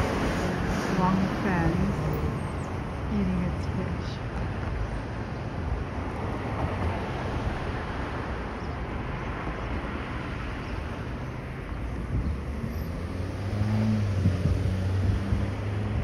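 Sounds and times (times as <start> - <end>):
passing cars: 0.0 - 16.0.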